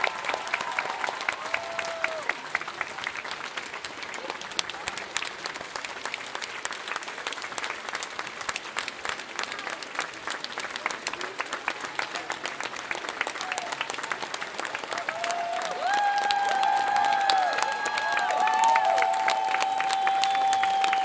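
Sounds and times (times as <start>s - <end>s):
large crowd applauding: 0.0s - 21.0s.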